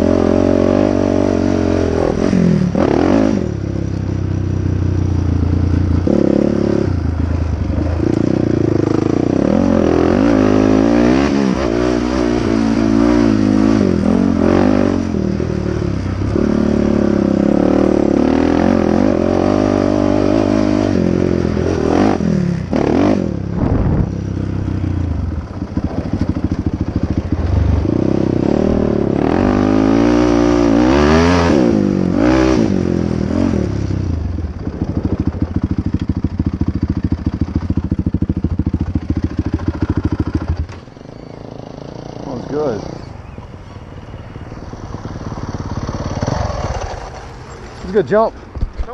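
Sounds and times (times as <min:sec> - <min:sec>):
quad engine revving: 0:00.0 - 0:03.9, 0:04.5 - 0:40.8, 0:41.4 - 0:47.8.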